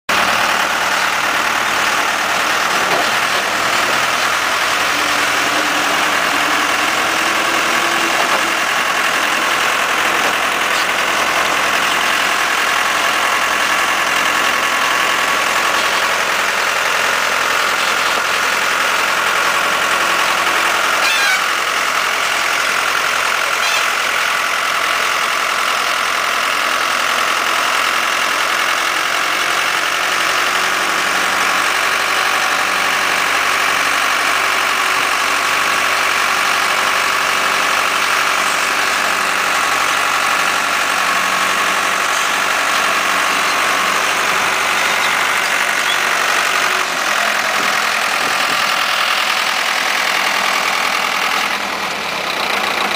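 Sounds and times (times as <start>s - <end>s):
tractor diesel engine under load: 0.1s - 52.9s.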